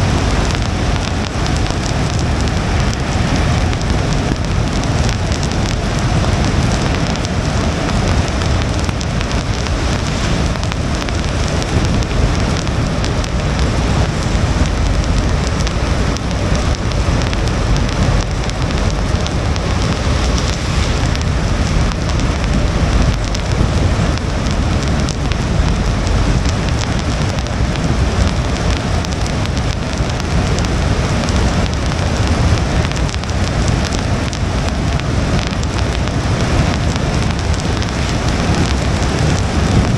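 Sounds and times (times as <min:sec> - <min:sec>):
rain hitting car windshield: 0:00.0 - 0:39.9
tyres rumbling on wet road: 0:00.0 - 0:39.9.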